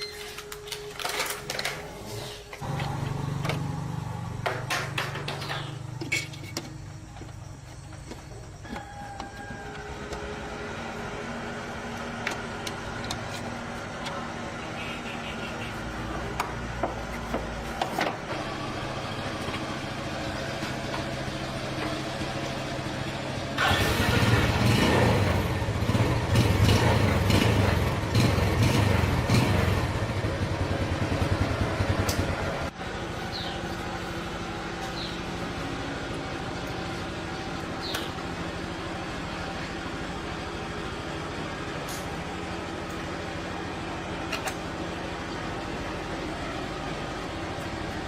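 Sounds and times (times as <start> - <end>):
motorcycle engine running: 2.6 - 17.6, 18.2 - 48.0.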